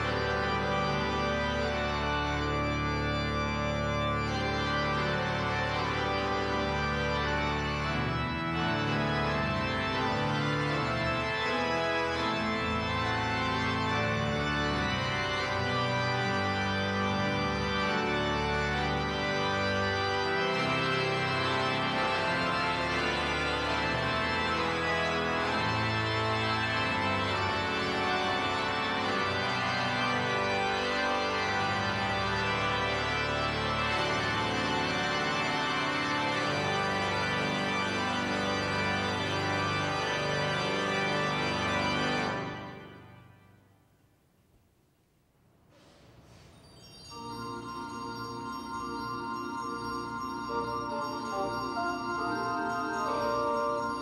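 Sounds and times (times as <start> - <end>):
pipe organ chords: 0.0 - 43.6, 46.7 - 54.0.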